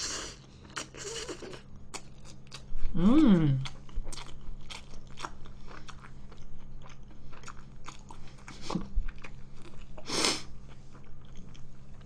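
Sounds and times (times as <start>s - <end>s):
person chewing noodles: 0.0s - 2.7s, 3.5s - 12.0s.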